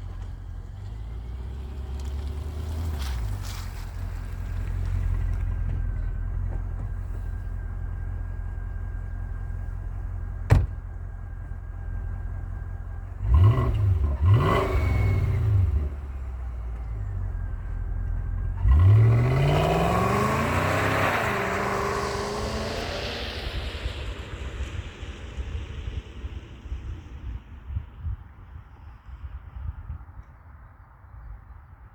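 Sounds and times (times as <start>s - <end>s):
car engine idling and revving: 0.0s - 28.6s.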